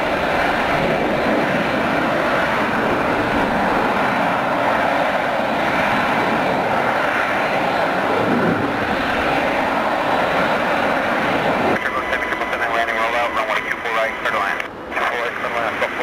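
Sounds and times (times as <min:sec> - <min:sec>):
jet engines at taxi power: 0:00.0 - 0:16.0.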